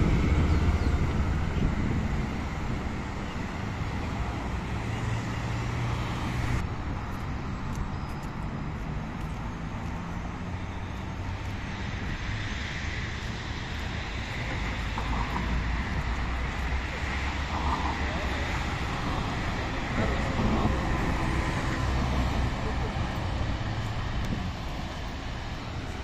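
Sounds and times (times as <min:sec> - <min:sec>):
low engine drone: 0:00.0 - 0:26.0
road traffic noise: 0:00.0 - 0:26.0.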